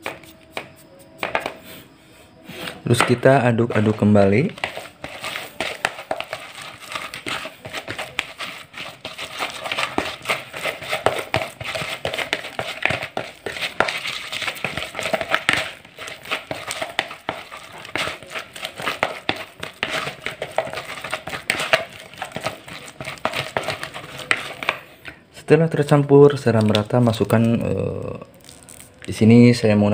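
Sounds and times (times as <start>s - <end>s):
bait mix scratching in plastic bowl: 2.7s - 24.9s, 26.3s - 29.2s.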